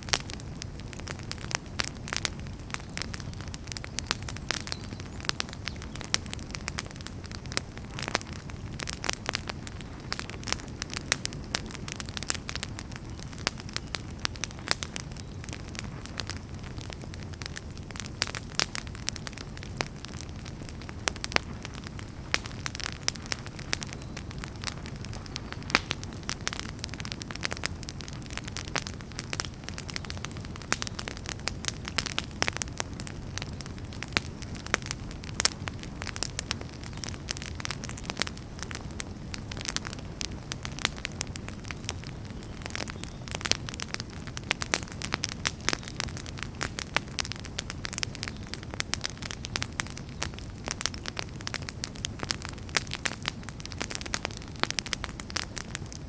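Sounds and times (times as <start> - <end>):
fire crackling and popping: 0.0 - 56.0
low rumble of flame: 0.0 - 56.0.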